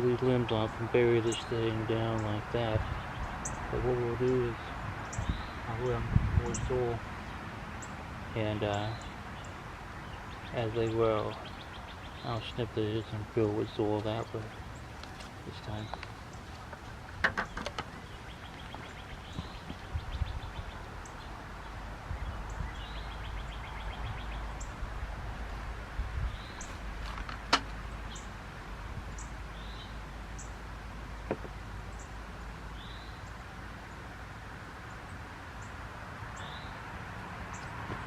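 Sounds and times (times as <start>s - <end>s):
bird chirping: 0.0s - 24.8s, 26.2s - 28.4s, 29.1s - 34.1s, 34.8s - 36.8s.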